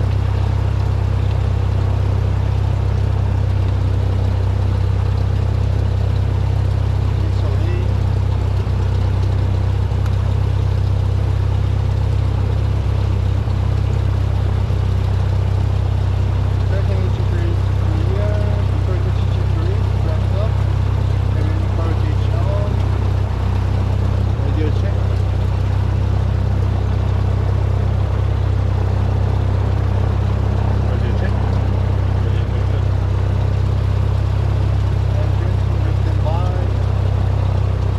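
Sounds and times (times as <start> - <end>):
propeller aircraft engine droning: 0.0 - 37.9.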